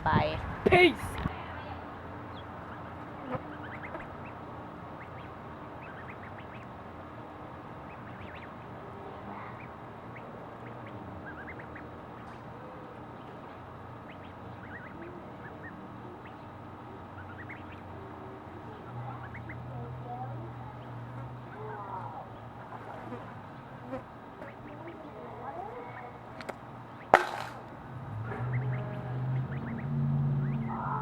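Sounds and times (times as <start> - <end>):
low background hum: 0.0 - 31.0
duck calling: 2.3 - 31.0.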